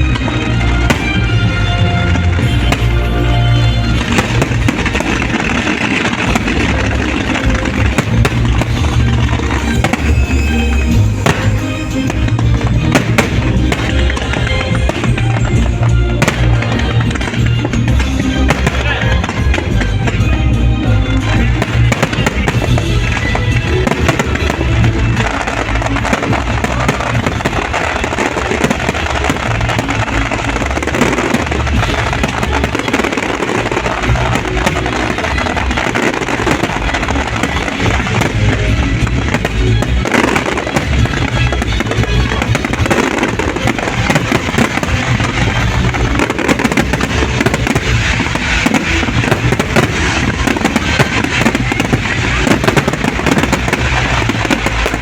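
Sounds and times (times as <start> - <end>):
fireworks bursting and crackling: 0.0 - 55.0
loud music: 0.0 - 55.0.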